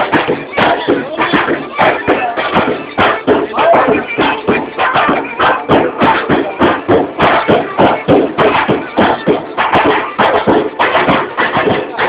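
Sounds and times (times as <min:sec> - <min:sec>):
music with percussive beat: 0:00.0 - 0:12.0.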